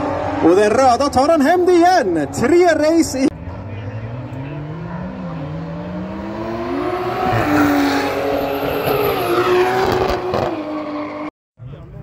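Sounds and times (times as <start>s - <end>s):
race cars accelerating: 0.0s - 11.3s.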